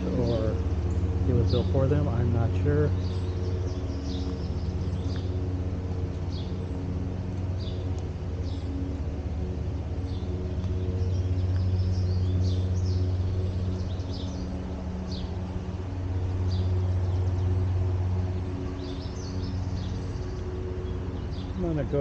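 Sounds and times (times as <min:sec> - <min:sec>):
songbirds chirping: 0:00.0 - 0:22.0
steady low hum: 0:00.0 - 0:22.0.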